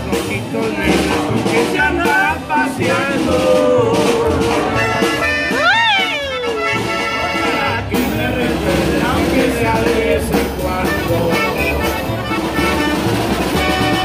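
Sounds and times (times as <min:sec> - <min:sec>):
man singing: 0:00.0 - 0:12.9
accordion: 0:00.0 - 0:14.0
guitar: 0:00.0 - 0:14.0
upright bass: 0:00.0 - 0:14.0.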